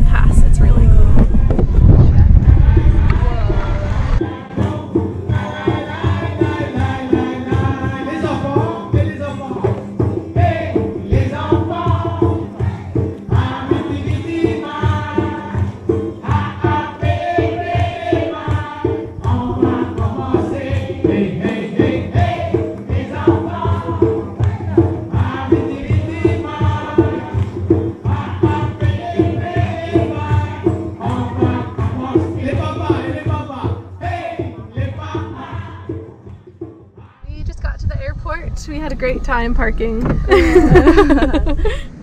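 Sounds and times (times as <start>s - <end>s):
song with choir-like vocals: 1.8s - 37.3s, 40.0s - 42.0s.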